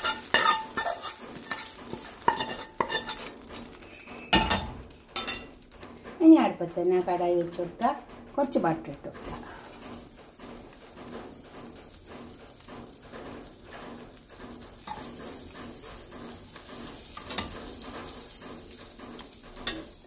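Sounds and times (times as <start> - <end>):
butter sizzling in a pan: 0.0 - 20.0.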